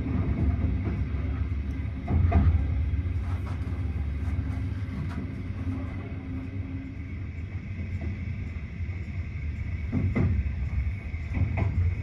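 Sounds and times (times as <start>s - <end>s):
train wheel clacks: 0.0s - 6.2s, 7.8s - 12.0s
train wheels rumbling on rail: 0.0s - 12.0s.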